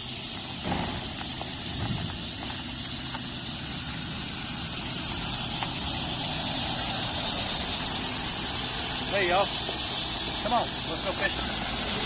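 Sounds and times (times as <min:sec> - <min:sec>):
steady high hiss: 0:00.0 - 0:12.0
truck engine running: 0:00.0 - 0:12.0.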